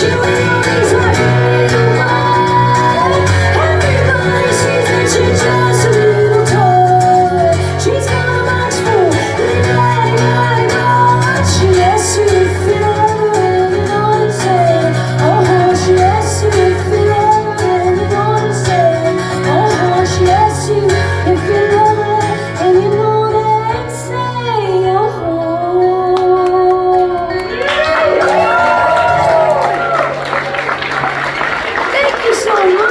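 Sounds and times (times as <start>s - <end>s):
woman singing lead: 0.0s - 30.0s
country-rock band playing: 0.0s - 32.9s.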